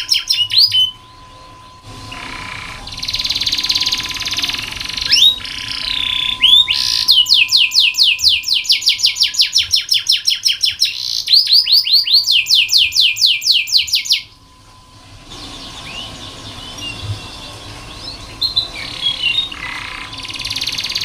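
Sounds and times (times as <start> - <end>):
canary singing: 0.0 - 14.5, 15.3 - 21.0.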